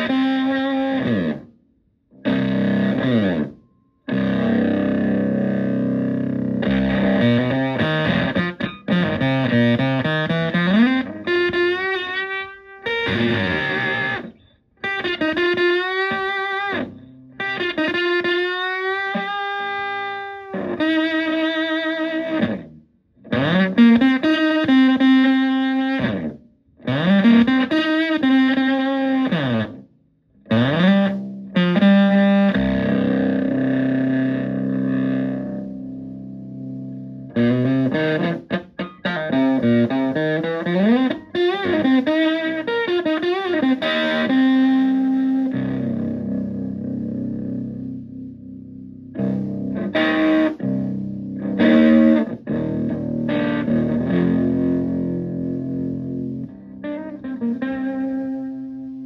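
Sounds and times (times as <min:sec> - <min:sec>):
fuzz electric guitar lead: 0:00.0 - 0:01.5, 0:02.1 - 0:29.8, 0:30.4 - 0:59.0.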